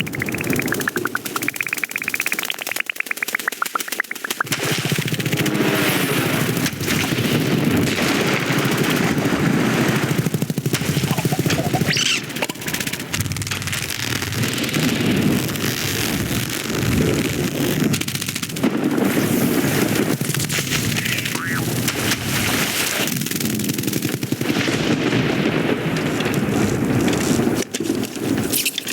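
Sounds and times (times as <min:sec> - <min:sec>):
heavy raindrops pounding: 0:00.0 - 0:27.6.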